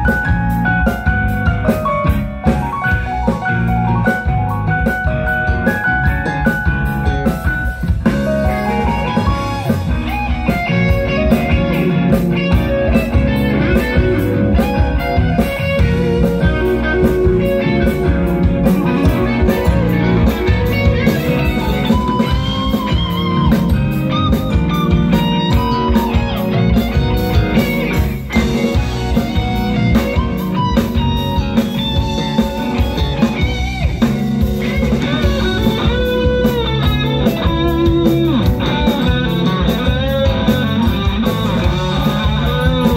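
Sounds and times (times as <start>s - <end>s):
rock band playing: 0.0s - 42.9s.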